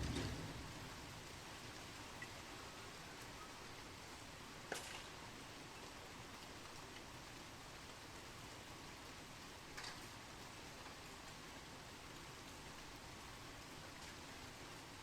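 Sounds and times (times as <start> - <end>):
raindrops tapping a surface: 0.0 - 3.4, 4.6 - 15.0
steady rain falling: 0.0 - 15.0.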